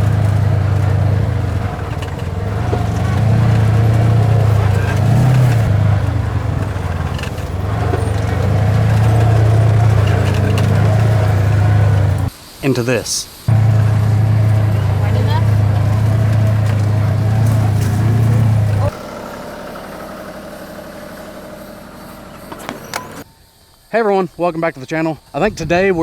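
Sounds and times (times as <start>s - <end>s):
small vehicle engine running: 0.0s - 12.3s, 13.5s - 23.3s.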